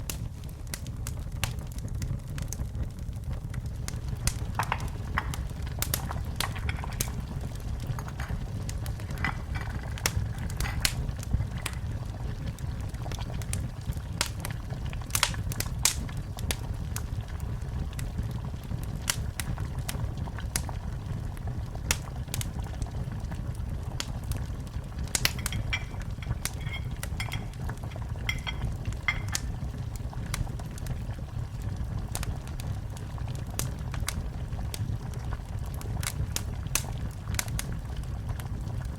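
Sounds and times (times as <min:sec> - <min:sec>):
low fire rumble: 0:00.0 - 0:38.9
wood fire crackling: 0:00.0 - 0:38.9.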